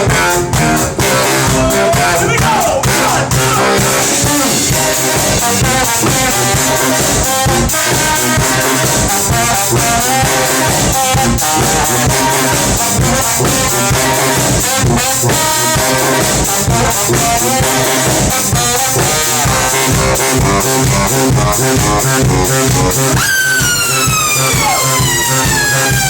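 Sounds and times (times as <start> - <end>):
brass band playing: 0.0 - 26.0
trombone: 0.0 - 26.0.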